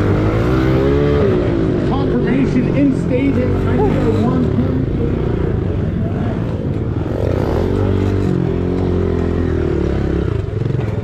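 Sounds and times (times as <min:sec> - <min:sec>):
pit bike engine revving: 0:00.0 - 0:11.0.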